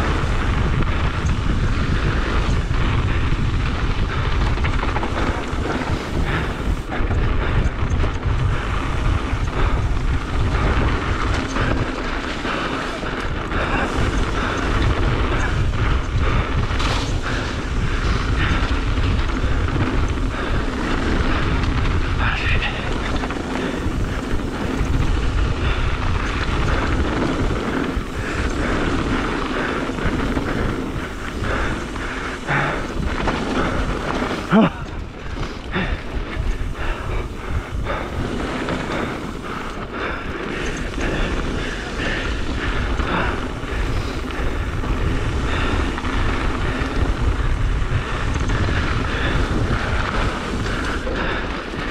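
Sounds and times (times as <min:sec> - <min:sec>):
bike tyres rolling over gravel: 0:00.0 - 0:51.9
wind buffeting microphone: 0:00.0 - 0:51.9.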